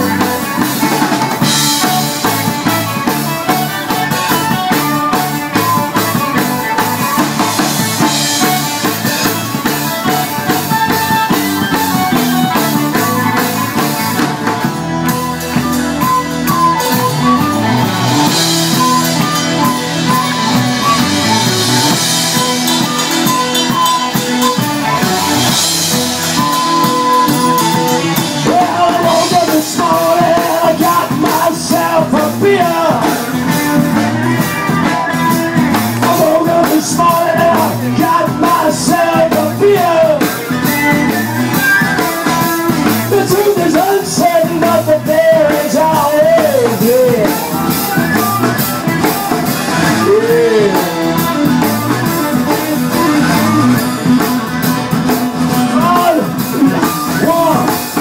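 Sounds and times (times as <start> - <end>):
harmonica melody: 0.0 - 58.0
rock band playing: 0.0 - 58.0.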